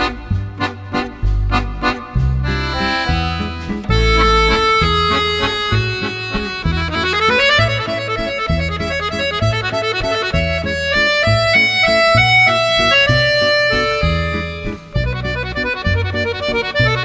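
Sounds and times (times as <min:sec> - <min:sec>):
melodic instrumental tune: 0:00.0 - 0:17.0
pulsing bass beat: 0:00.0 - 0:17.0.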